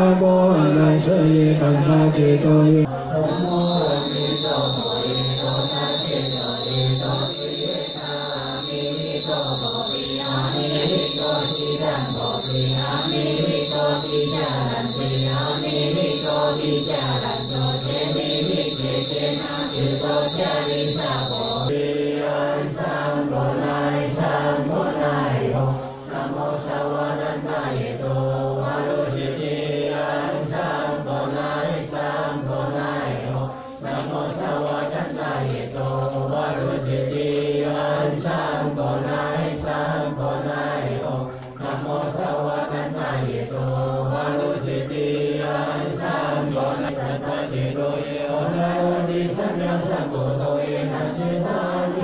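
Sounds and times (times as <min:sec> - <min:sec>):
monks chanting in low drone: 0:00.0 - 0:52.0.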